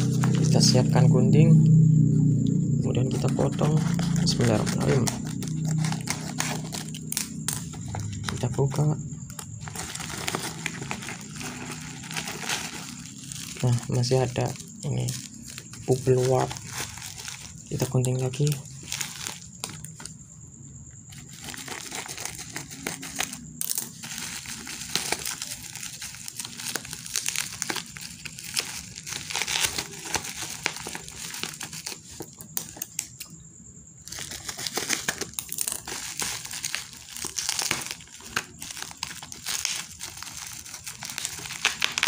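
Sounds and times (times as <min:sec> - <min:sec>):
bubble wrap crinkling: 0:00.0 - 0:01.0, 0:03.0 - 0:20.2, 0:21.0 - 0:33.3, 0:34.0 - 0:42.0.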